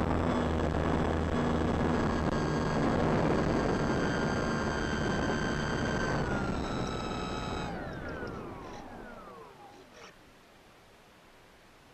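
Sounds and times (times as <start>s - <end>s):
electric motor whining: 0.0s - 10.2s.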